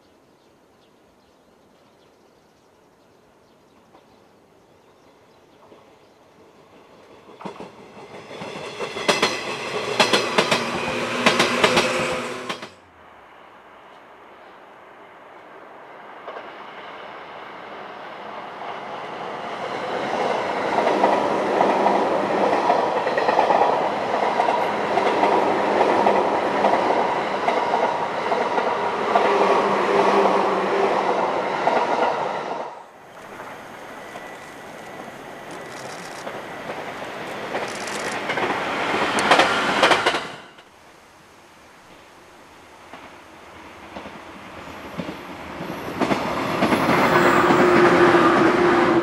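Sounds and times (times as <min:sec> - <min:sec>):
electric train passing at speed: 0:03.8 - 0:49.0.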